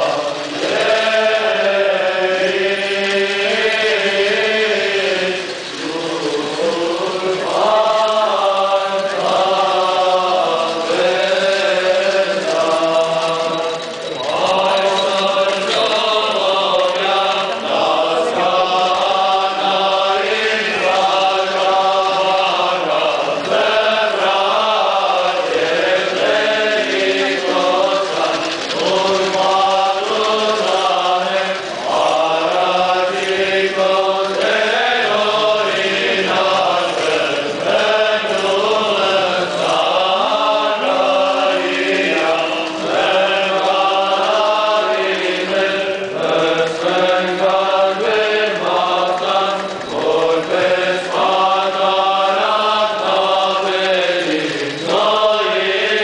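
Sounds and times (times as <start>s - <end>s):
men's choir chanting hymn: 0.0s - 56.0s.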